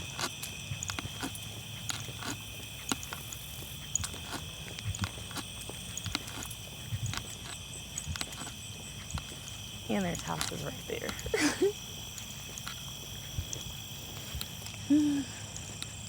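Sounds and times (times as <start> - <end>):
footsteps clicking: 0.0 - 16.0
high-pitched insect chorus: 0.0 - 16.0.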